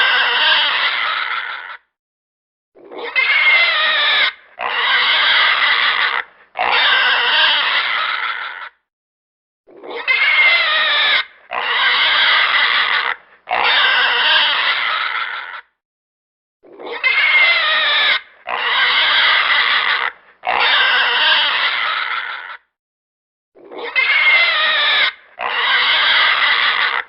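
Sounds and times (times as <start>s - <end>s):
piglet squealing: 0.0s - 1.9s, 2.8s - 8.9s, 9.7s - 15.8s, 16.6s - 22.7s, 23.6s - 27.0s.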